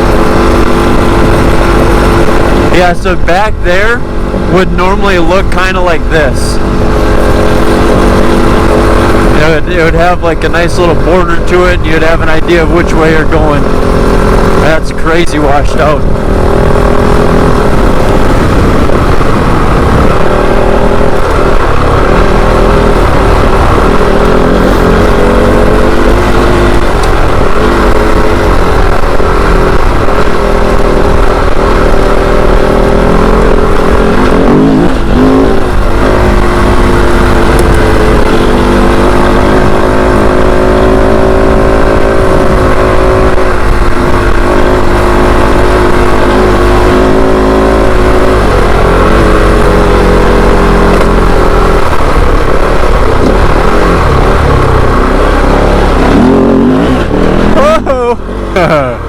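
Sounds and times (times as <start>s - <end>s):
motorcycle engine revving under load: 0.0s - 59.0s.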